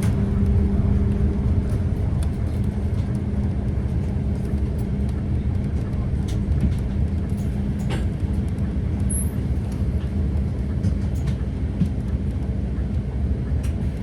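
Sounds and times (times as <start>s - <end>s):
light clicks and rattles: 0.0s - 13.0s
bus diesel engine humming: 0.0s - 14.0s.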